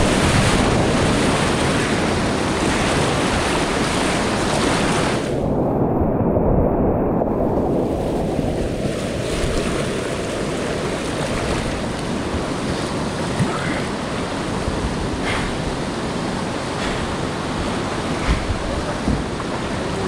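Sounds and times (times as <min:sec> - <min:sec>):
whitewater rushing: 0:00.0 - 0:05.8, 0:07.4 - 0:20.0
wind buffeting microphone: 0:00.0 - 0:20.0.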